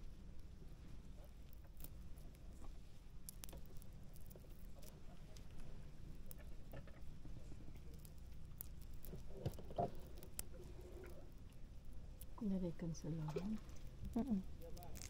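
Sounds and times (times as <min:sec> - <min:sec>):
low steady rumble: 0:00.0 - 0:15.0
small clicks and rustles: 0:00.0 - 0:15.0.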